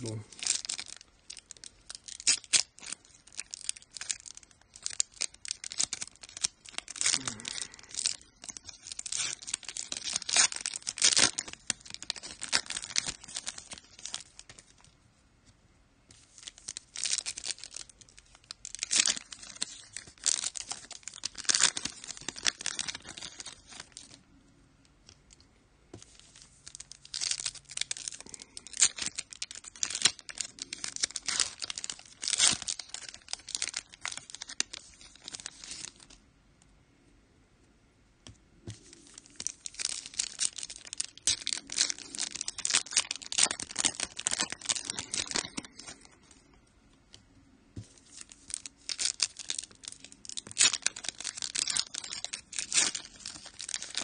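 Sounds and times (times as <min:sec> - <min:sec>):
card pack wrappers crinkling and tearing: 0:00.0 - 0:15.0, 0:16.1 - 0:24.2, 0:26.0 - 0:36.2, 0:38.7 - 0:46.6, 0:47.8 - 0:54.0.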